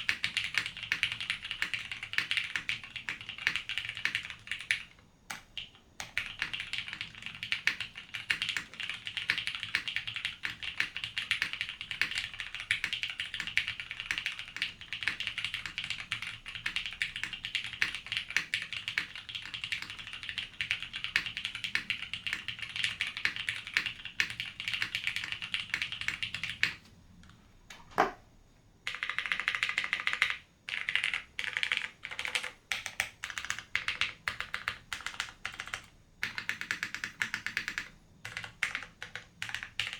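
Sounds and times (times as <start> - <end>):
typing on mechanical keyboard: 0.0 - 26.8, 28.8 - 39.9.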